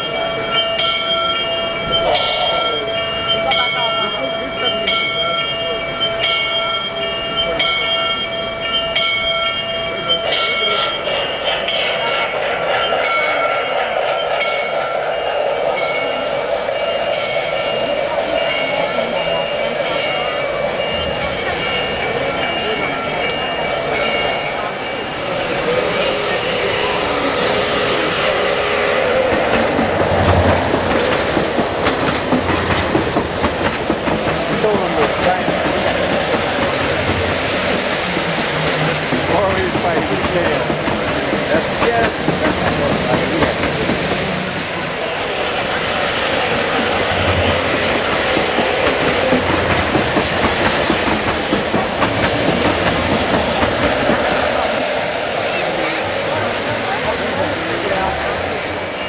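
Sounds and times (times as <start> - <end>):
model train cars clattering on track: 8.9 - 59.0.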